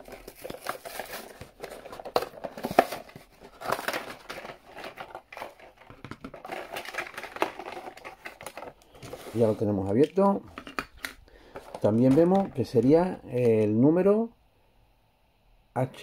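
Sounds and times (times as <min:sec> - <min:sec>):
plastic blister pack crinkling: 0:00.0 - 0:13.7.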